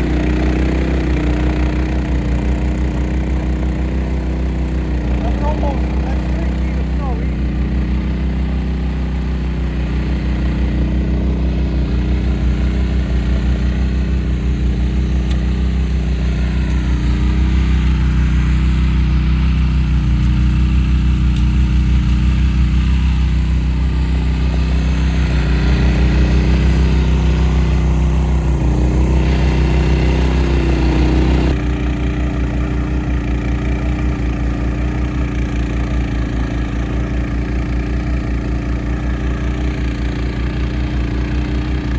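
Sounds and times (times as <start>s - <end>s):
snowblower engine running: 0.0s - 41.9s.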